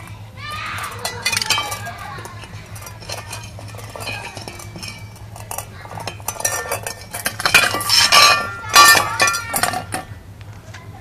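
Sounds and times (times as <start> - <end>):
metal bowl clinking on concrete: 0.6 - 10.1.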